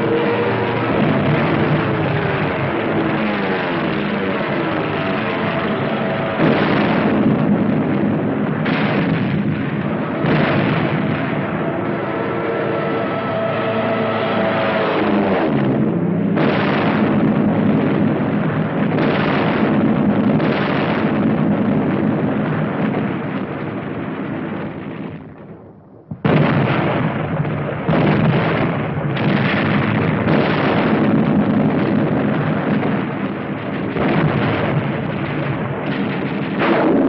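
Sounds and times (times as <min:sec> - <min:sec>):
explosions: 0:00.0 - 0:37.0
gunfire: 0:00.0 - 0:37.0.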